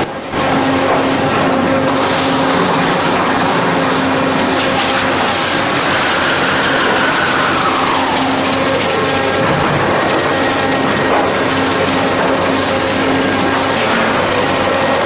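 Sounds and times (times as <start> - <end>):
lathe machining: 0.0 - 15.0.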